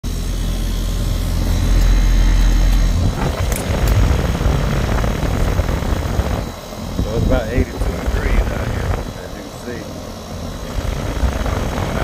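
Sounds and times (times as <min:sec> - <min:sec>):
air conditioner fan rumble: 0:00.0 - 0:12.0.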